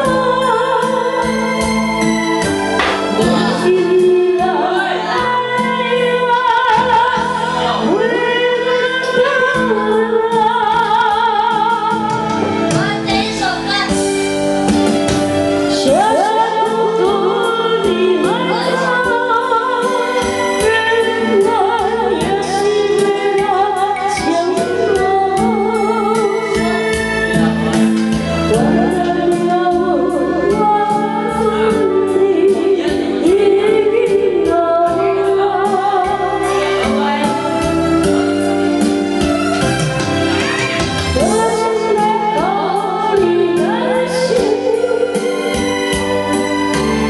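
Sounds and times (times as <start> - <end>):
backing track music: 0.0 - 47.0
woman singing karaoke: 0.0 - 47.0.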